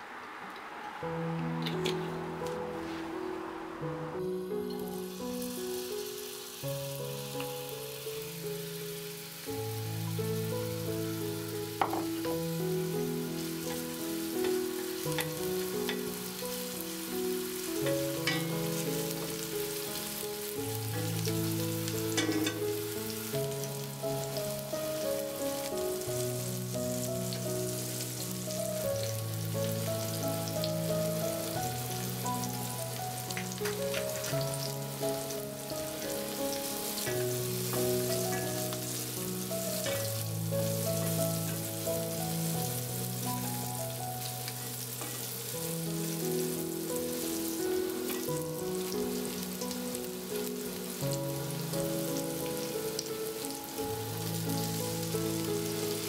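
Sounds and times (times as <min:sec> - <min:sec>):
slow melodic background music: 0:00.0 - 0:56.0
onions sizzling in oil: 0:01.1 - 0:56.0.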